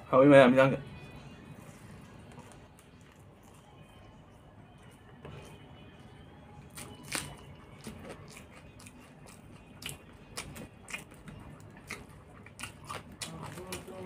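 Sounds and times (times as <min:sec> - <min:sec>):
person chewing crunchy food: 0:01.9 - 0:14.0.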